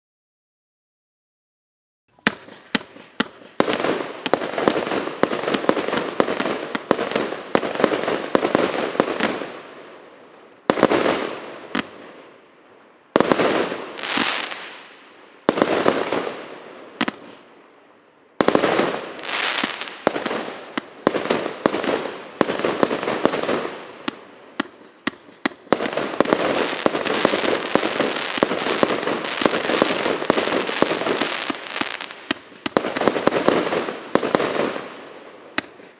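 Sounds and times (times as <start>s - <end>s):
fireworks shots and bursts: 2.1s - 17.6s, 18.3s - 35.9s.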